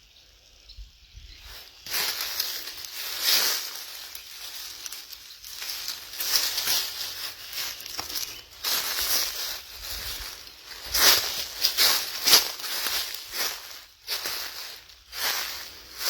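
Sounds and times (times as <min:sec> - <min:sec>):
footsteps on dry leaves and twigs: 0:01.3 - 0:16.0.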